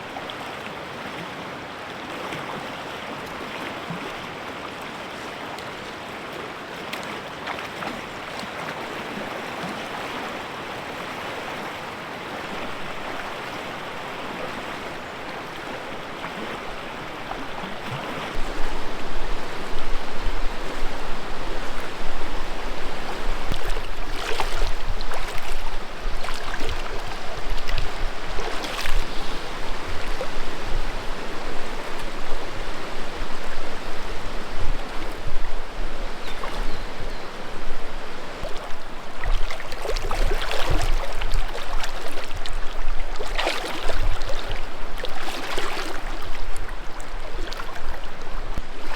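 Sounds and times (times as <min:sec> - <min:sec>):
river water rushing: 0:00.0 - 0:48.9.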